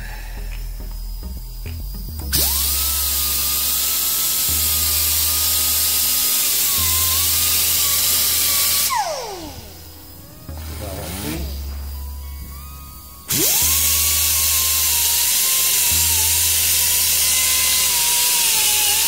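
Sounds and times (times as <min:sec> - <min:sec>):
die grinder whining: 0:02.2 - 0:19.0.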